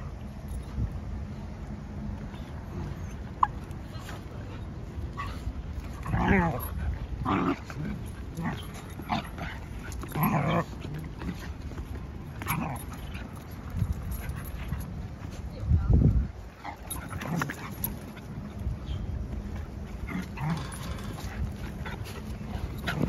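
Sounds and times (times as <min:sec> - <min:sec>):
dogs play-fighting vocalizing: 0:00.0 - 0:15.5, 0:16.4 - 0:23.0.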